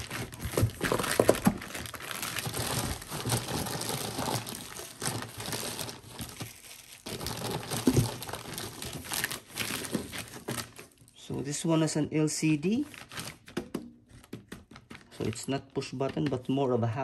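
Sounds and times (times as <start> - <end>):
plastic wrapping crinkling: 0.0 - 11.7, 12.5 - 16.6.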